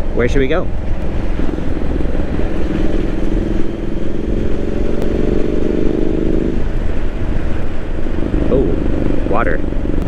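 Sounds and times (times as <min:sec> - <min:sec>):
motorcycle engine running: 0:00.0 - 0:10.0
wind and road rumble: 0:00.0 - 0:10.0.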